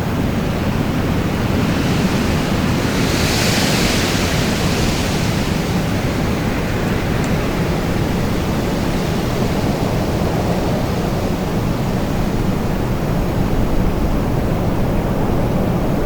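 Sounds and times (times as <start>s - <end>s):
storm wind blowing: 0.0s - 16.0s.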